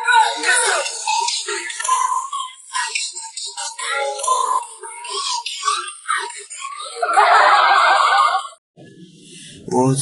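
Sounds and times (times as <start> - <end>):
thin pop music with vocal: 0.0 - 8.6.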